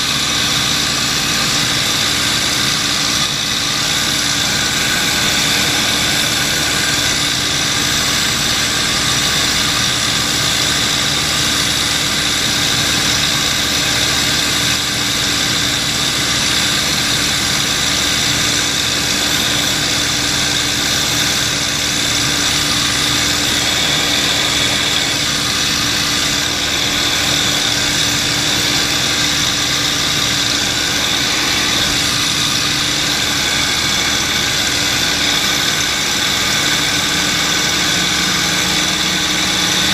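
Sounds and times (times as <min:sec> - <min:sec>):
propeller plane engine from cockpit: 0:00.0 - 0:39.9.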